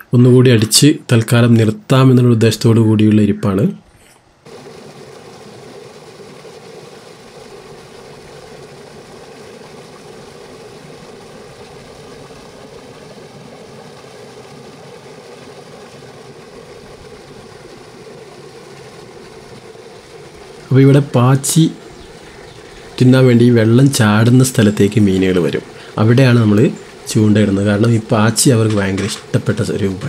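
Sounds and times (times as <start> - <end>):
river water rushing over fall: 4.4 - 30.0.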